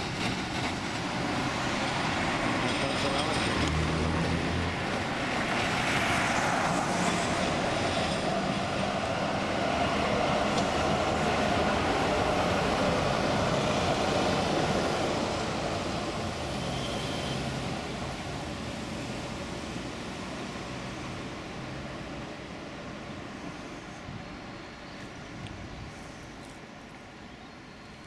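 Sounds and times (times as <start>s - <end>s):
road traffic: 0.0s - 28.0s
tram wheels rumbling on rails: 0.0s - 28.0s.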